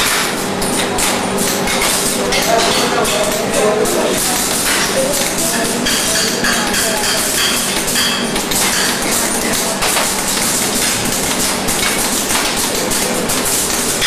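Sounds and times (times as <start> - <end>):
label dispensing machine running: 0.0 - 14.0.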